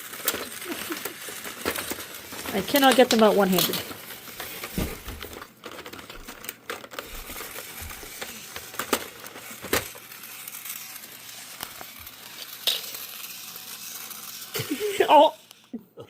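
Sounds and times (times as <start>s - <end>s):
plastic packaging crinkling: 0.0s - 15.4s.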